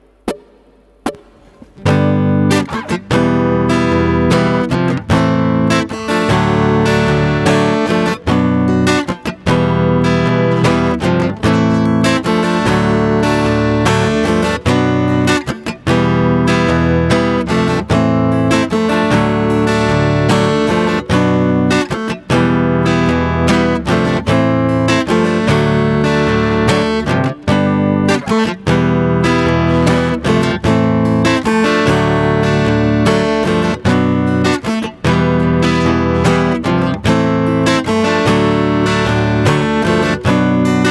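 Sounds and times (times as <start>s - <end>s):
strummed acoustic guitar backing track: 0.3s - 40.9s.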